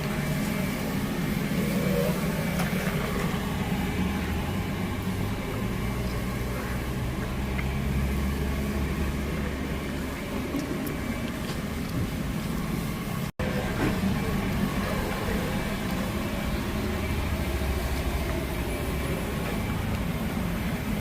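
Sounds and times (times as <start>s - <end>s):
machine motor humming: 0.0s - 21.0s.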